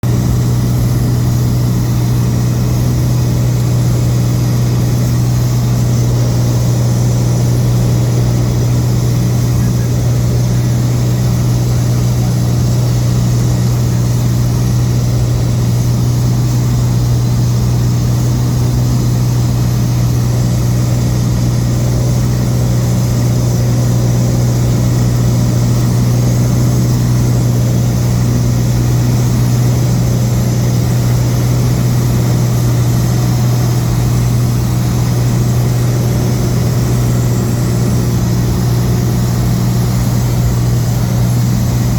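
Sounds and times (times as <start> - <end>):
engine deep drone: 0.0 - 41.9.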